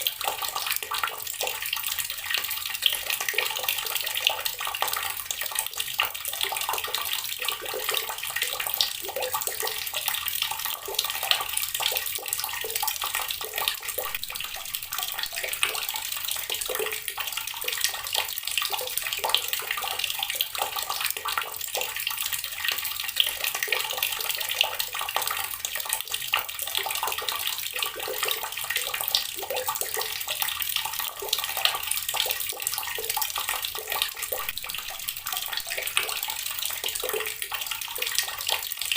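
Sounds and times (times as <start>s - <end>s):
water tap running: 0.0s - 38.9s.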